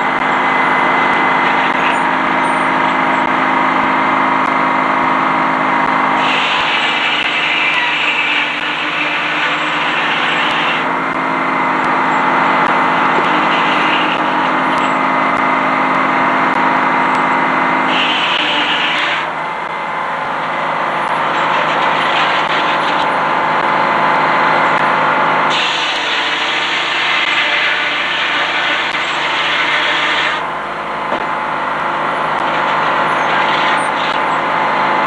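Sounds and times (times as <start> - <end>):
sawmill mechanical din: 0.0 - 35.0.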